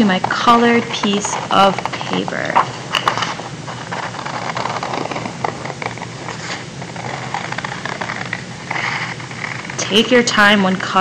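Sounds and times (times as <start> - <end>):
paper sheet rustling: 0.0 - 10.3.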